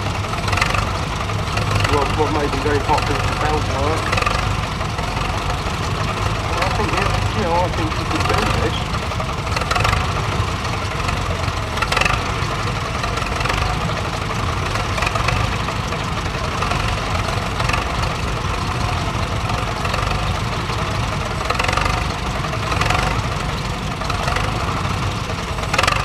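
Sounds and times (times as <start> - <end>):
crawler tractor engine running slowly: 0.0 - 26.0.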